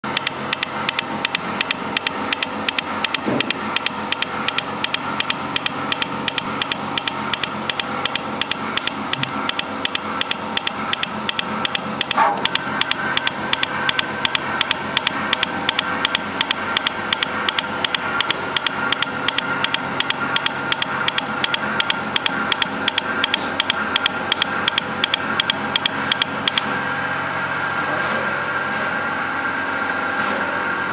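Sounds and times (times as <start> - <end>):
machine clicking: 0.0 - 26.7
mechanical hum: 0.0 - 30.9.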